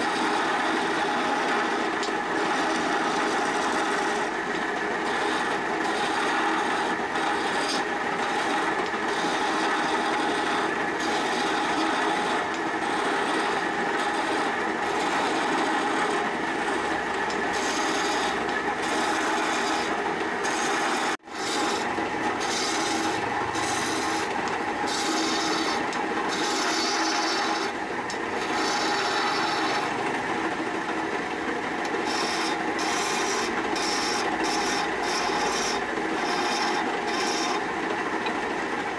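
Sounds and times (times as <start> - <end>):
chisel rasping wood on lathe: 0.0 - 38.8
lathe motor hum: 0.0 - 38.9.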